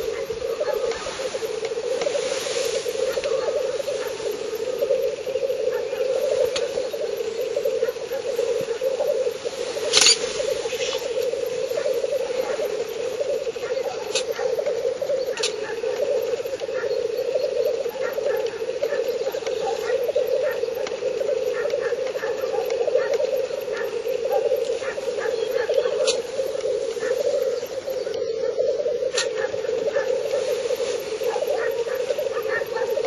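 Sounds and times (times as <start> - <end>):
grouse bubbling display song: 0.0 - 33.0.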